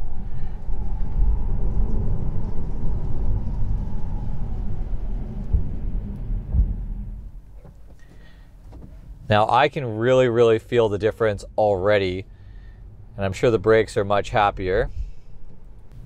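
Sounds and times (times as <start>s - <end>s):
tyre and road noise in car cabin: 0.0s - 16.0s.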